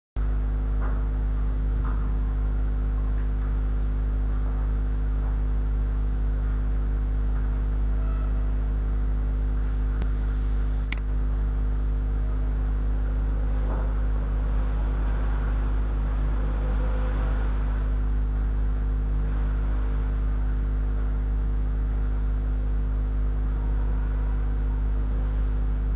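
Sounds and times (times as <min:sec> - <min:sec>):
electrical mains hum: 0:00.2 - 0:25.9.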